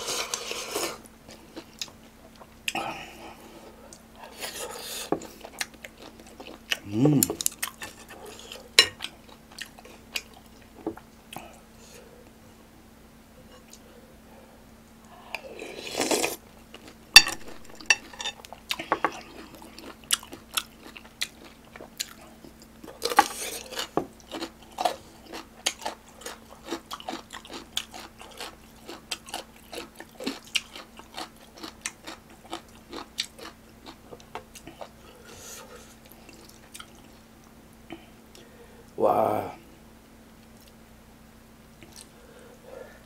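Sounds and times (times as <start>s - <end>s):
person chewing noodles: 0.0s - 12.0s, 15.3s - 37.6s, 41.8s - 43.0s
faint steady hum: 0.0s - 43.0s.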